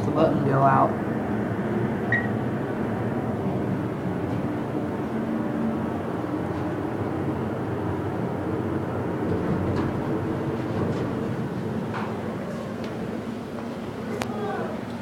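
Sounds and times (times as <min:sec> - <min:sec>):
elevator machinery humming: 0:00.0 - 0:15.0.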